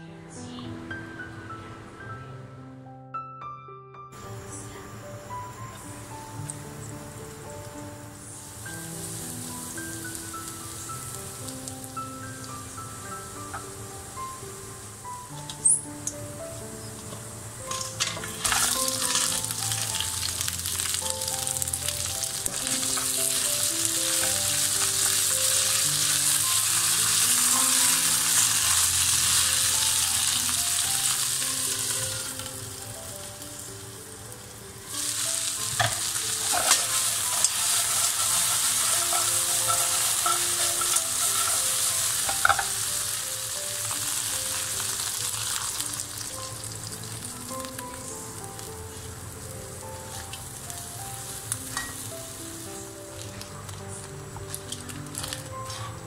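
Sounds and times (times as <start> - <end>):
crab sizzling in hot oil: 4.2 - 56.0.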